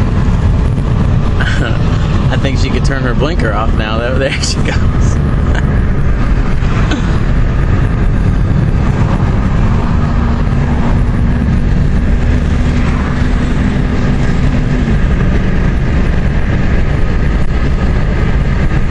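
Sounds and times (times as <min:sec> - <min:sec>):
car cabin road rumble: 0:00.0 - 0:18.9.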